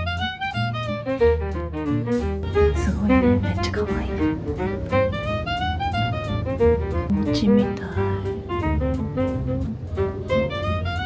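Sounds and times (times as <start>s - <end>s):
bowed string melody: 0.0s - 11.0s
steady bass line: 0.0s - 11.0s.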